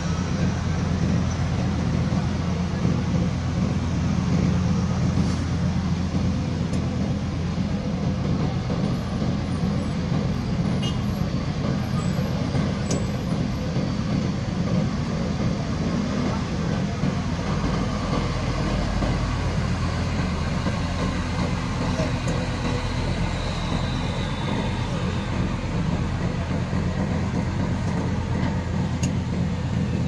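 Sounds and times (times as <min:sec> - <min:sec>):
diesel truck engine rumbling: 0:00.0 - 0:30.0.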